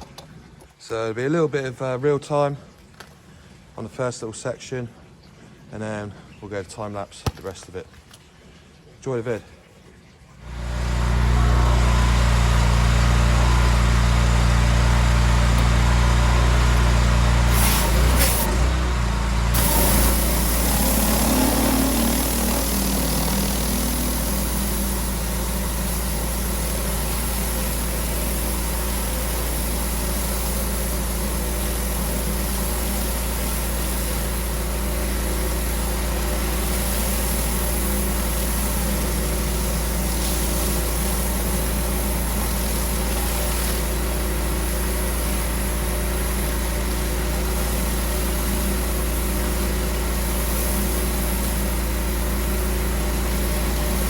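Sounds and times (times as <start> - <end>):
pressure washer engine hum: 10.4 - 54.0
water jet hissing on paving: 10.4 - 54.0.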